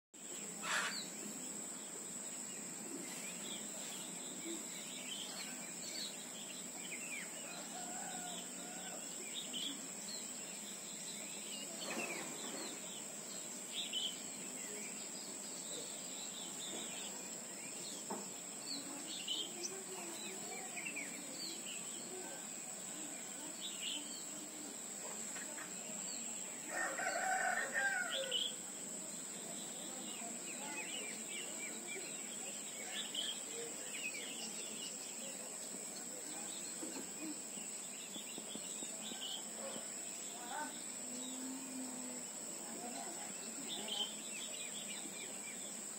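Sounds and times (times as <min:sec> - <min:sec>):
high-pitched insect whine: 0:00.2 - 0:45.9
birds chirping: 0:00.4 - 0:42.0.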